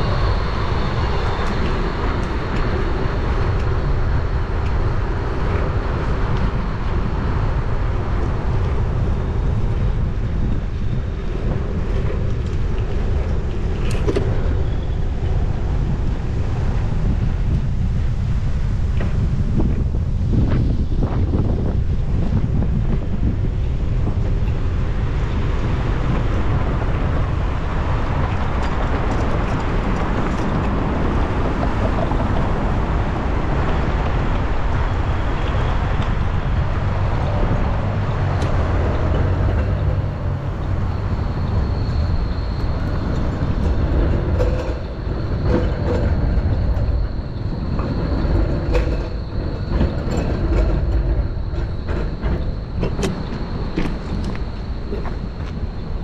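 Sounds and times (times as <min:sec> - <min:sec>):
passing vehicles: 0:00.0 - 0:56.0
steady high whine: 0:00.0 - 0:56.0
wind rumbling on microphone: 0:00.0 - 0:56.0.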